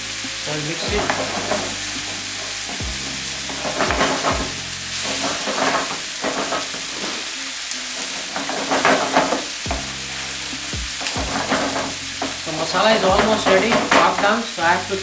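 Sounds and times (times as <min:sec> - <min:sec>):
masala sizzling in a frying pan: 0:00.0 - 0:15.0
spatula scraping a pan: 0:00.2 - 0:14.5.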